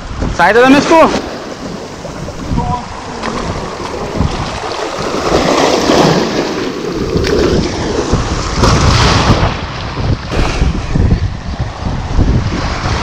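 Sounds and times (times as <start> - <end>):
wind buffeting microphone: 0.0 - 13.0
waves washing over rocks: 0.1 - 13.0.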